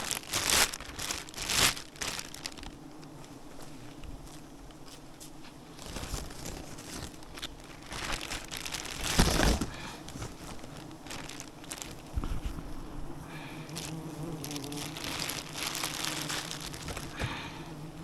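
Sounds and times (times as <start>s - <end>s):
crinkling and crunching: 0.0s - 17.7s.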